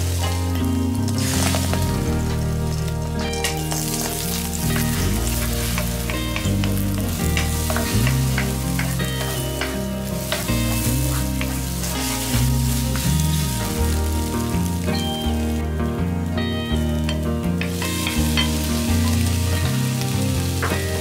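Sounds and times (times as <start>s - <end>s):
background music: 0.0s - 21.0s
eggs sizzling in a wok: 0.0s - 21.0s.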